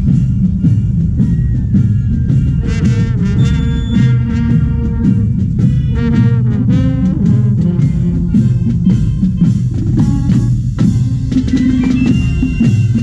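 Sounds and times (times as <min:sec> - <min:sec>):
brass marching band playing: 0:00.0 - 0:13.0.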